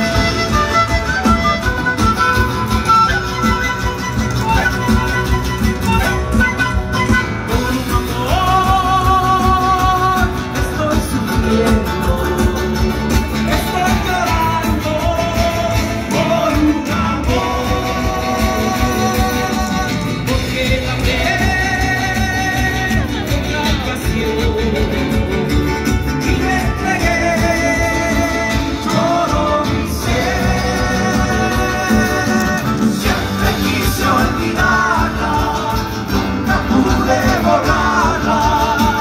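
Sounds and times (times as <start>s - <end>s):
guitar accompaniment: 0.0s - 39.0s.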